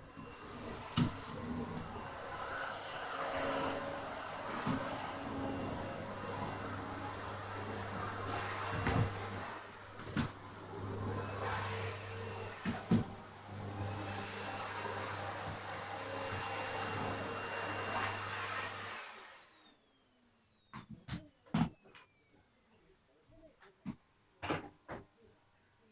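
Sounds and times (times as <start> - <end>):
vacuum cleaner motor whine: 0.0 - 22.7.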